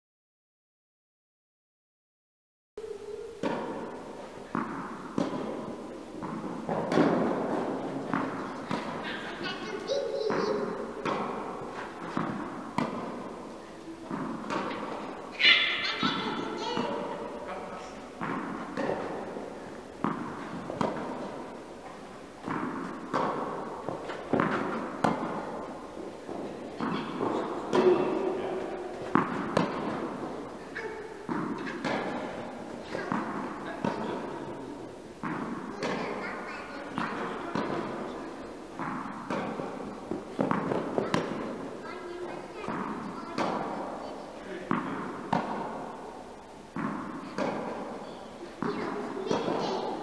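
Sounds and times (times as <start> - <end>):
rackets striking tennis ball: 3.4 - 50.0
tennis ball bouncing: 3.4 - 50.0.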